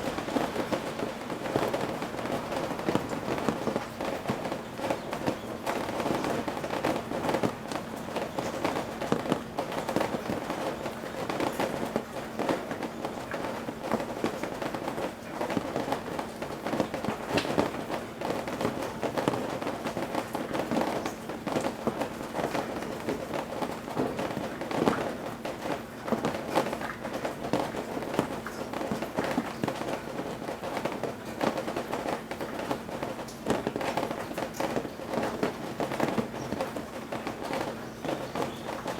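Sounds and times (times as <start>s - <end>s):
rain dripping on roof eaves: 0.0s - 38.9s.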